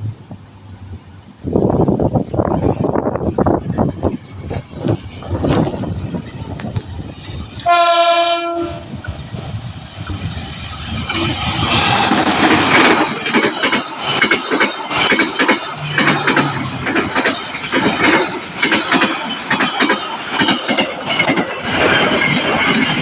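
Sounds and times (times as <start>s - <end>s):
train wheels clattering over rails: 0.0s - 23.0s.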